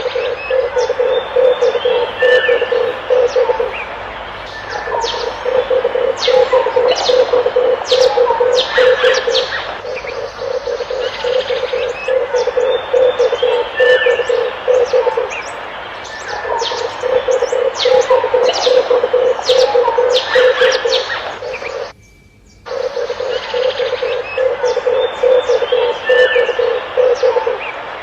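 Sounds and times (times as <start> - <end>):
dove cooing: 0.0 - 21.9, 22.7 - 28.0
small birds chirping: 0.0 - 28.0.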